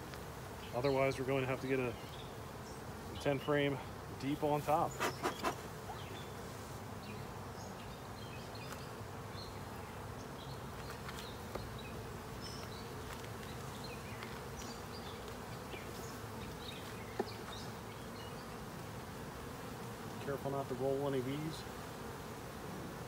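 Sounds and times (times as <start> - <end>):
honey bees buzzing: 0.0 - 23.0.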